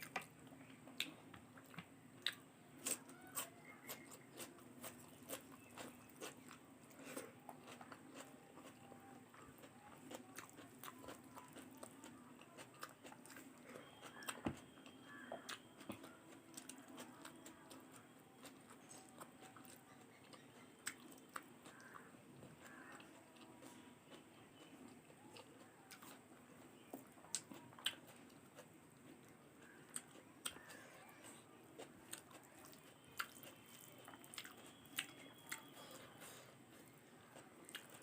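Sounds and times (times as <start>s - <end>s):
person chewing soft food: 0.0s - 38.0s.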